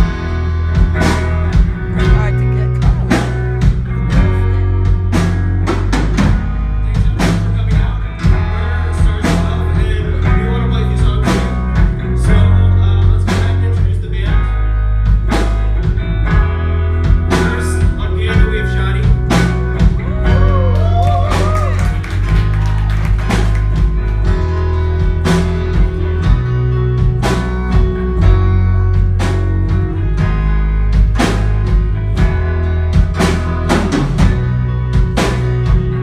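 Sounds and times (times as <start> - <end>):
heavy bass line: 0.0 - 36.0
live rock band playing: 0.0 - 36.0
regular drum hits: 0.0 - 36.0.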